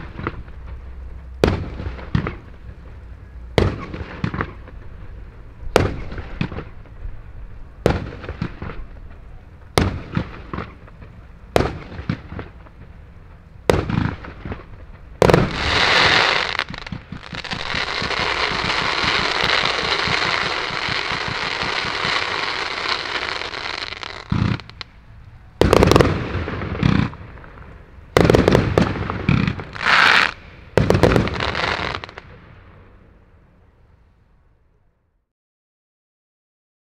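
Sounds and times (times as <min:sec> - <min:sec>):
fireworks cake firing: 0:00.0 - 0:32.9.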